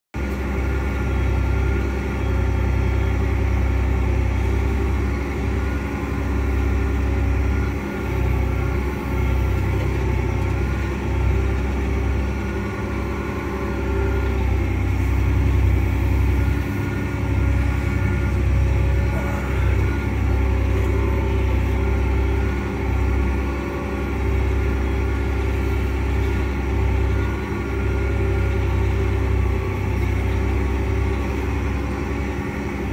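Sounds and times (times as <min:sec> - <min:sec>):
diesel tractor engine droning: 0:00.1 - 0:32.9.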